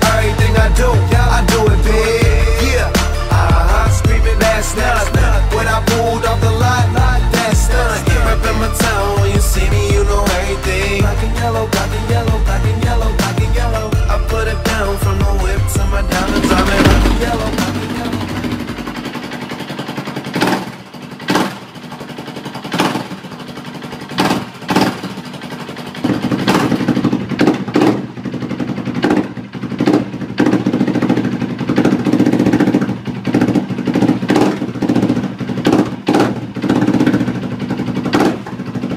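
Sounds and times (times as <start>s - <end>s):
motorcycle engine throttle blips: 0.0s - 38.9s.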